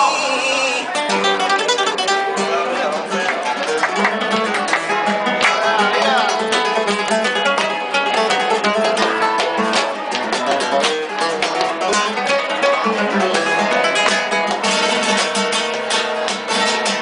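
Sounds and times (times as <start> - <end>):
flamenco guitar playing: 0.0 - 17.0.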